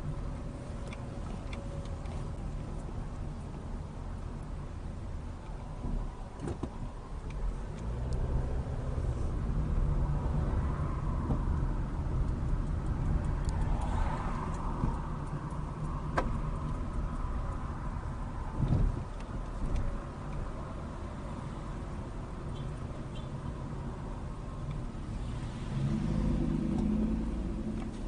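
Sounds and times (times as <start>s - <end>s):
car engine: 0.0s - 28.0s
road noise: 0.0s - 28.0s.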